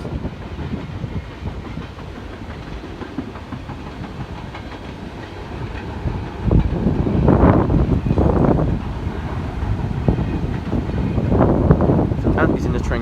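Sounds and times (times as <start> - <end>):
freight train rumbling past: 0.0 - 13.0
wheels clicking over rail joints: 0.0 - 13.0.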